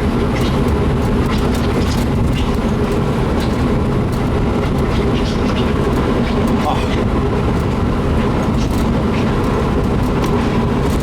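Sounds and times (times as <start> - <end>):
vehicle engine drone from inside: 0.0 - 11.0.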